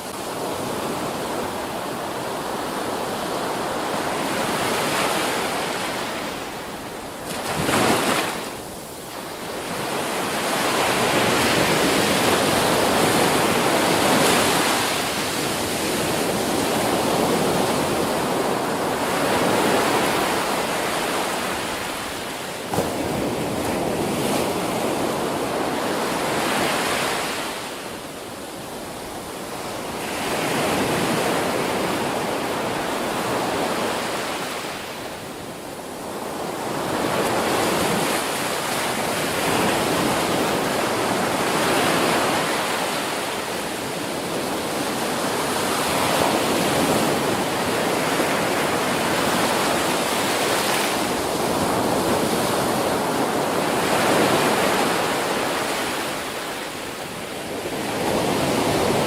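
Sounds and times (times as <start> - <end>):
ocean surf breaking on beach: 0.0 - 59.0.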